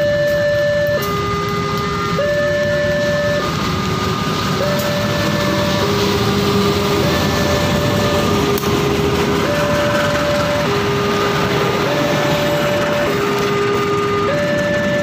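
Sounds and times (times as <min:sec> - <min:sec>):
level crossing warning siren: 0:00.0 - 0:15.0
rumbling vehicle noise: 0:00.0 - 0:15.0.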